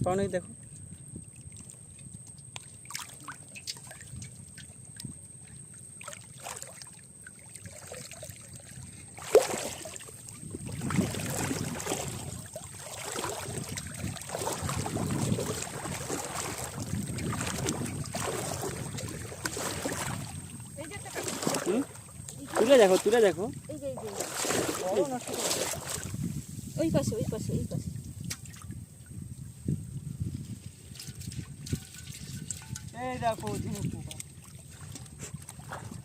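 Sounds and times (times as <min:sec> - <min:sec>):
river water splashing: 0:01.3 - 0:27.7, 0:30.9 - 0:36.0.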